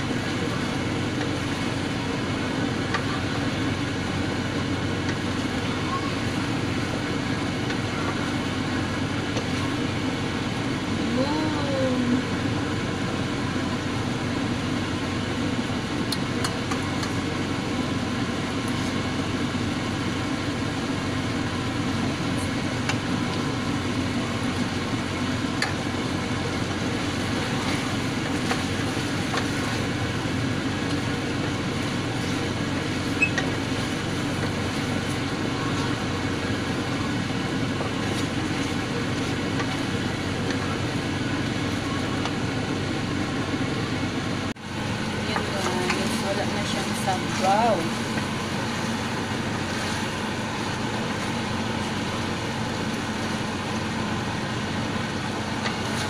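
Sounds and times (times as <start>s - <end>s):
steady rushing hum: 0.0s - 56.0s.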